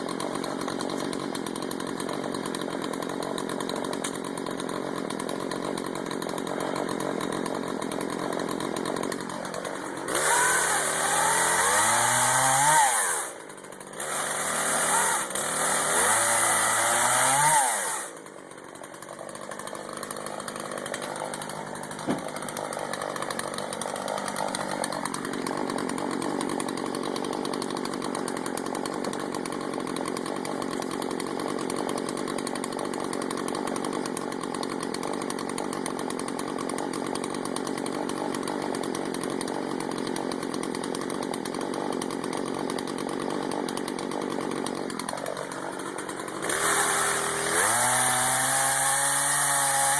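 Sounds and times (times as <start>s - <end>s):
small gasoline engine running: 0.0s - 49.9s.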